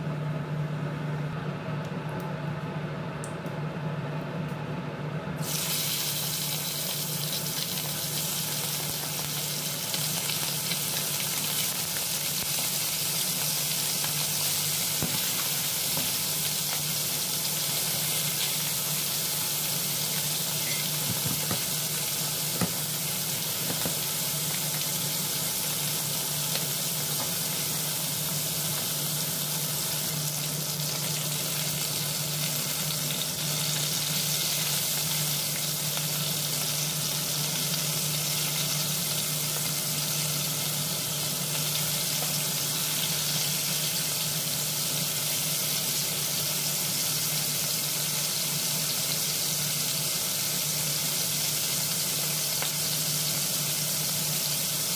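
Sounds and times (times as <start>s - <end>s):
chicken sizzling in oil: 5.4s - 54.9s.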